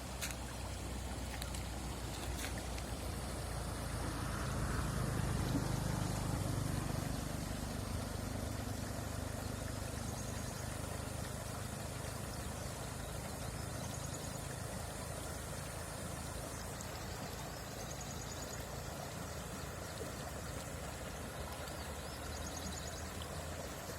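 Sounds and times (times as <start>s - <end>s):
rushing water: 0.0s - 23.9s.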